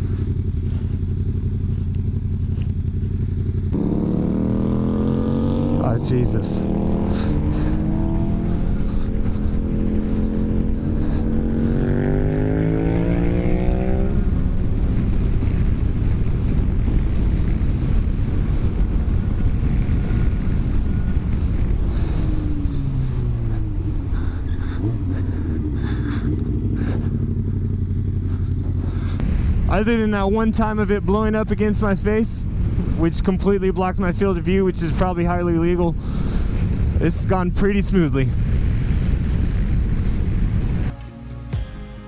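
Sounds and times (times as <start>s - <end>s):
motorcycle engine accelerating: 0.0s - 33.0s, 38.2s - 42.0s
rushing wind: 0.0s - 42.0s.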